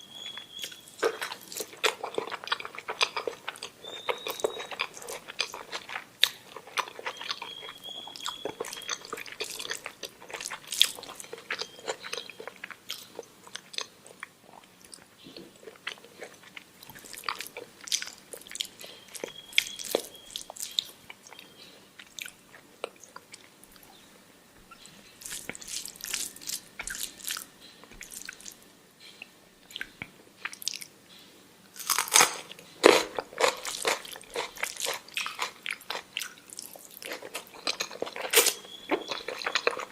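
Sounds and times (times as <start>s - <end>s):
person chewing food: 0.2s - 24.1s, 24.7s - 30.9s, 31.7s - 39.9s.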